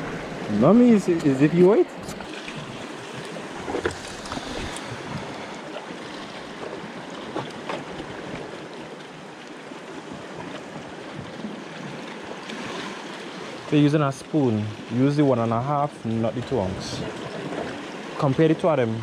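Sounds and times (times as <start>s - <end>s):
waves washing over rocks: 0.0s - 19.0s.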